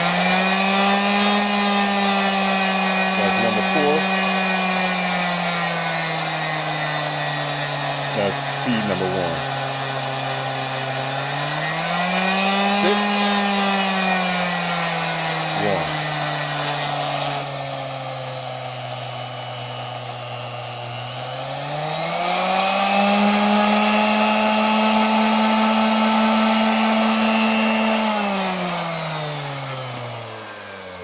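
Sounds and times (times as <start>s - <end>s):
orbital sander motor whirring: 0.0s - 31.0s.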